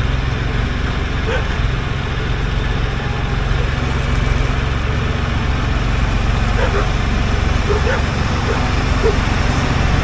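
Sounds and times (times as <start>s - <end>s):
backhoe diesel engine running: 0.0s - 10.0s.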